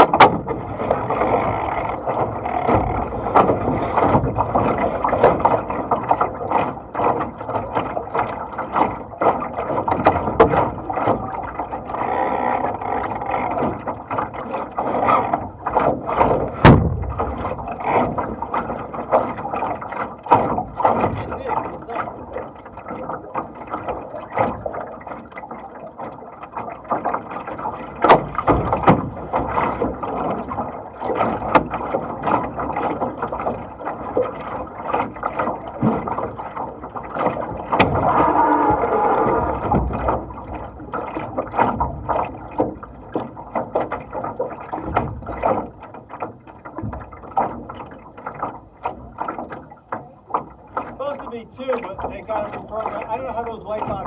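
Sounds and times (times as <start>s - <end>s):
rush of water: 0.0s - 54.0s
water slapping against boat hull: 0.0s - 54.0s.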